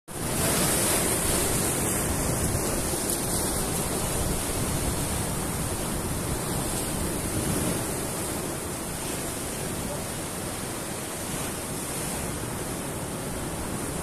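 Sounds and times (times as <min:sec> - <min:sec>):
surf washing over rocks: 0:00.1 - 0:14.0.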